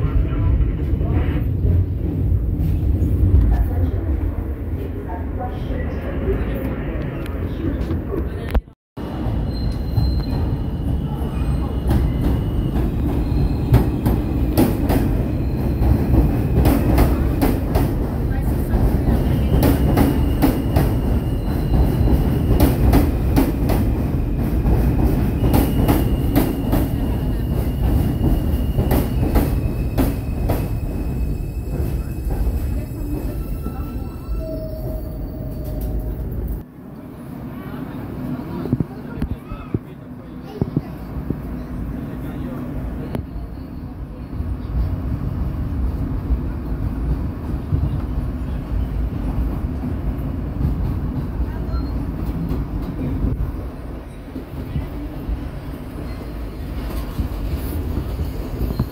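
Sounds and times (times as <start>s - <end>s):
wheels rumbling on rail: 0.0s - 58.9s.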